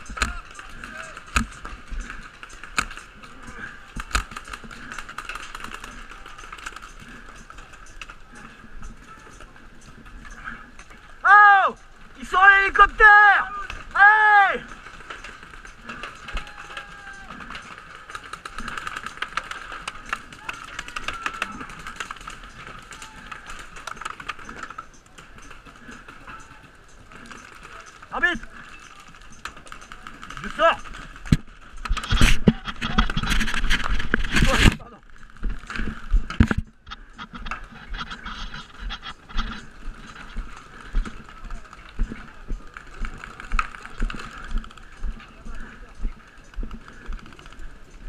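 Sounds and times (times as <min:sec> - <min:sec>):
paintballs striking: 0:00.0 - 0:11.1, 0:13.5 - 0:47.6.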